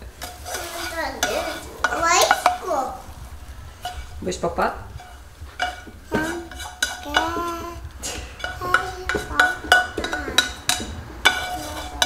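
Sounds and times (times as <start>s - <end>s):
utensil scraping a frying pan: 0.0s - 12.0s.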